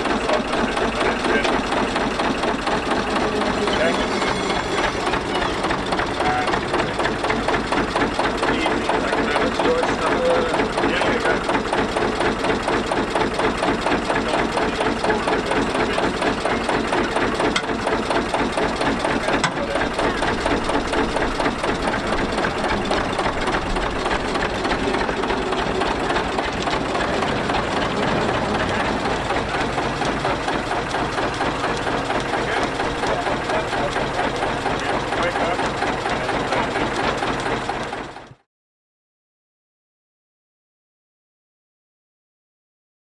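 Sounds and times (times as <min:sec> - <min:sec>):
diesel locomotive engine running: 0:00.0 - 0:38.5.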